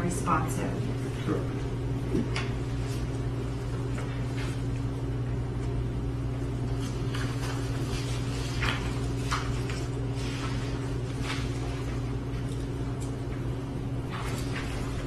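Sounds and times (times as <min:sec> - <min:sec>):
low room hum: 0:00.0 - 0:15.0
papers rustling and objects tapping: 0:01.1 - 0:04.9, 0:06.6 - 0:15.0.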